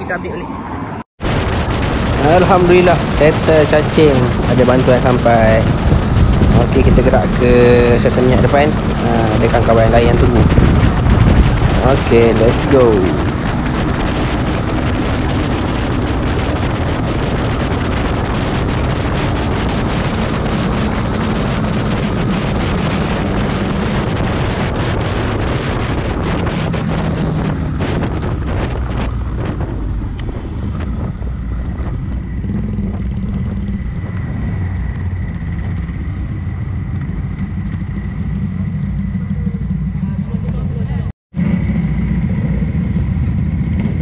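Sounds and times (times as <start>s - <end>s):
wind rushing over microphone: 0.0s - 44.0s
motorcycle engine running: 1.4s - 44.0s.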